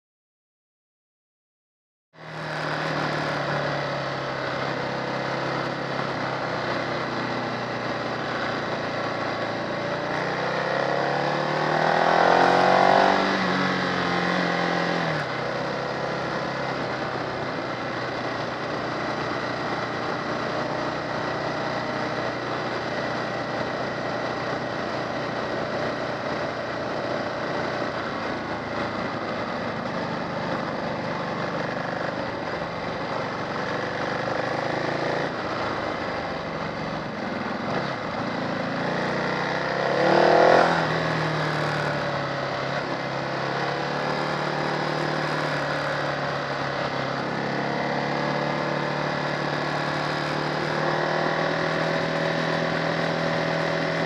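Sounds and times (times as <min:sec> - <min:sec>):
motorcycle engine running: 0:02.2 - 0:54.0
wind and road noise: 0:02.2 - 0:54.0.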